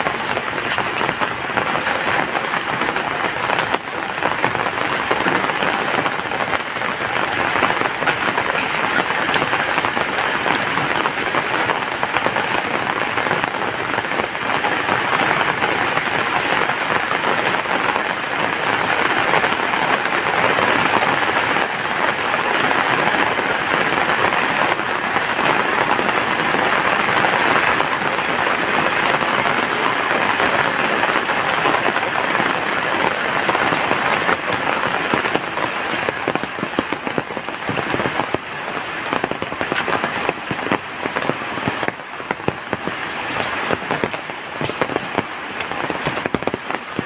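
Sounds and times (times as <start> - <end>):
heavy rain: 0.0 - 47.0.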